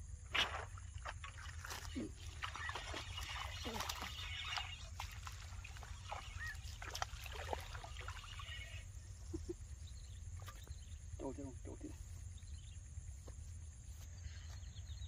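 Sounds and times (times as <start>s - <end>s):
birds chirping: 1.9s - 15.0s.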